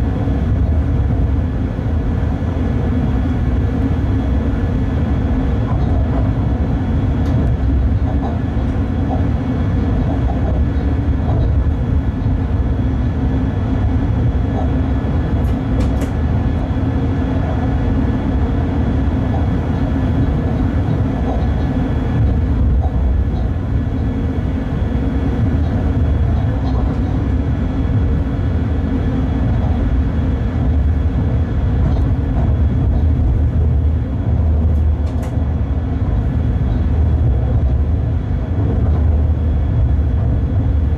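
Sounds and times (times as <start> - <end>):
running gear rumbling on track: 0.0 - 40.9.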